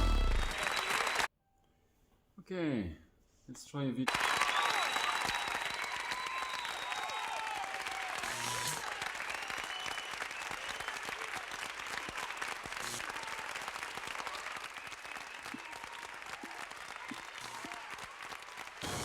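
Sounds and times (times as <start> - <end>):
crowd applauding: 0.0 - 1.3, 4.1 - 19.0.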